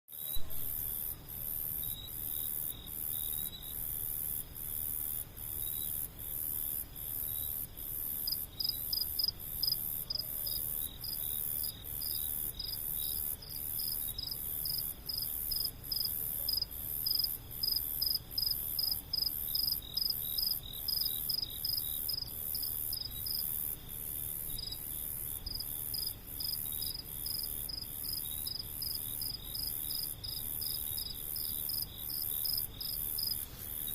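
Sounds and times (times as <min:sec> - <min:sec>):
lower fast insect chirping: 0:00.2 - 0:33.9.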